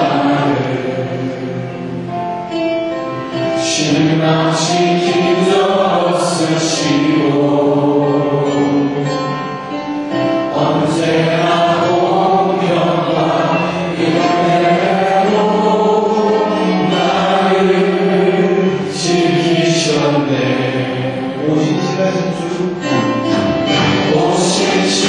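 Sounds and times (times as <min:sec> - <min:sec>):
men singing gospel song: 0:00.0 - 0:01.8, 0:03.6 - 0:09.1, 0:10.4 - 0:25.0.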